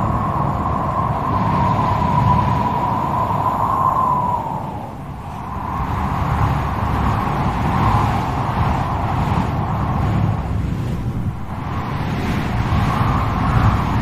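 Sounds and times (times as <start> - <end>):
gusting wind howling: 0.0 - 14.0.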